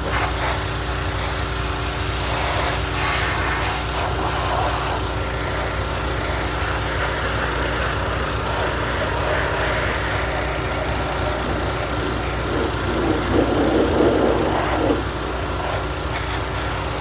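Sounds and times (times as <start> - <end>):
pressure washer pump humming: 0.0 - 17.0
pressure washer spray hiss: 0.0 - 17.0.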